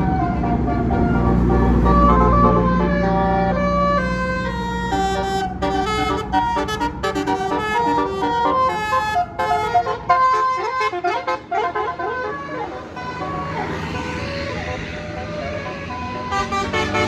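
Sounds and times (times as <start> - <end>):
multi-tone air horn melody: 0.0 - 17.0
vehicle noise rushing: 0.0 - 17.0.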